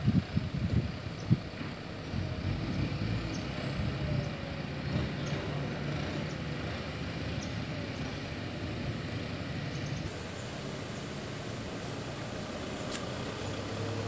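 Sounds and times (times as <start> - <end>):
distant diesel engines rumbling: 0.0 - 14.0.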